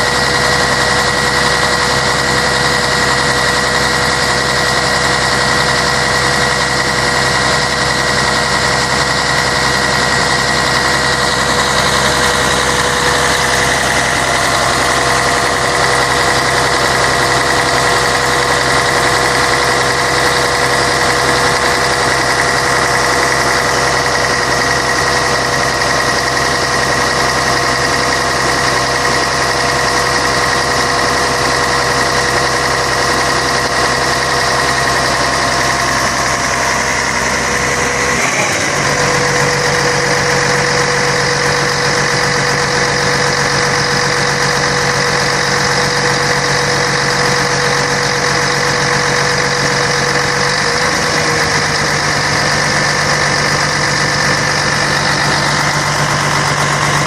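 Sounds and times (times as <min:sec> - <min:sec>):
diesel bus engine running: 0:00.0 - 0:57.0.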